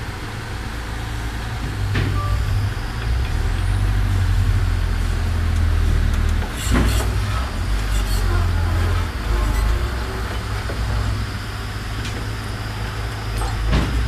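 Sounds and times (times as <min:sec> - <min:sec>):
diesel engine rumbling under load: 0:00.0 - 0:14.0.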